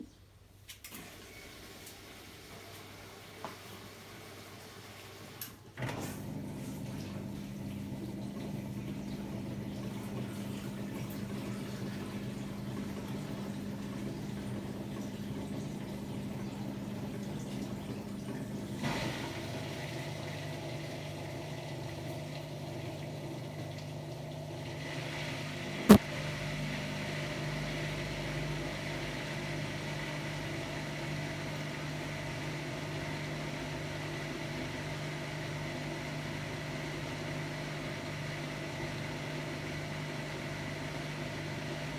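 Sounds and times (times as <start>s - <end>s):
washer-dryer humming: 0.8s - 41.9s.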